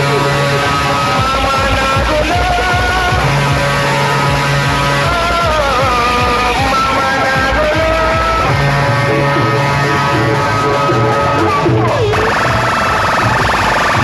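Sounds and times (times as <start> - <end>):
loud music over sound system: 0.0 - 14.0.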